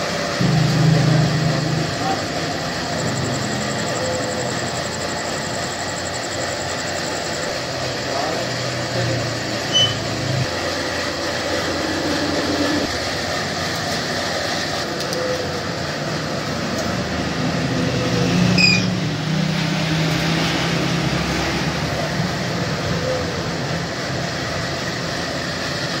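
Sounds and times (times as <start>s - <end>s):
steady machine noise: 0.0s - 26.0s.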